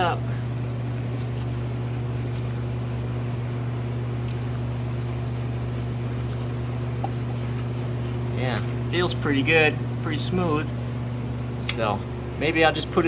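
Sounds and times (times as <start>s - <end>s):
steady low machine hum: 0.0s - 13.0s.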